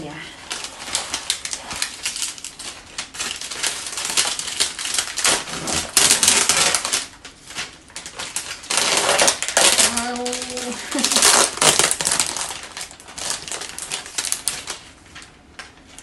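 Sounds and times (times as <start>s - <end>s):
plastic sleeve crinkling: 0.0s - 16.0s.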